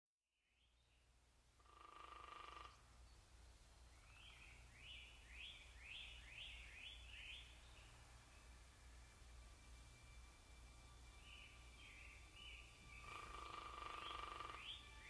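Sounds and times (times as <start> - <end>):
bird chirping: 0.4 - 15.0
low steady hum: 2.7 - 15.0.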